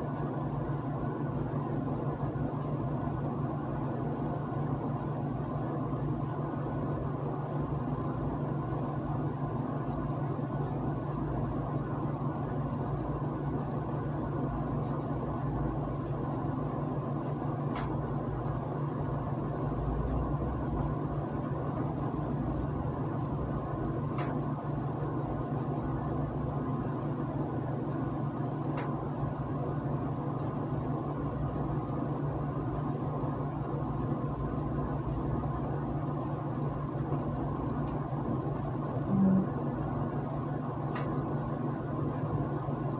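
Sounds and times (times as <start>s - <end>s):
low hum with hiss: 0.0s - 42.9s.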